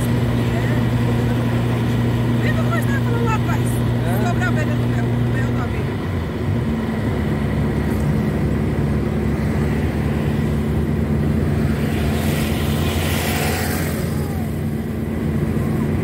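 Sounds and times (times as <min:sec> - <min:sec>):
car engine drone: 0:00.0 - 0:16.0
road noise: 0:00.0 - 0:16.0.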